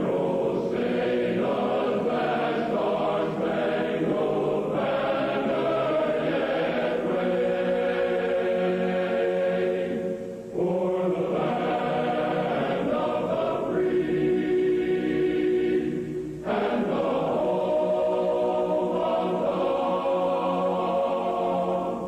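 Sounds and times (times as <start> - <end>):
choir singing an anthem: 0.0 - 22.0.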